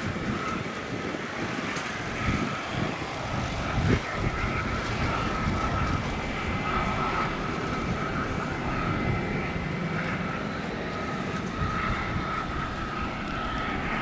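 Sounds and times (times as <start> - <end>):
jet engines whining: 0.0 - 14.0.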